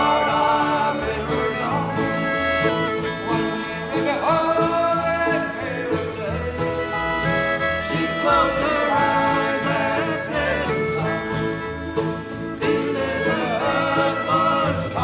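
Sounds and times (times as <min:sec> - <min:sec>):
plucked bass: 0:00.0 - 0:15.0
slow country song on acoustic instruments: 0:00.0 - 0:15.0.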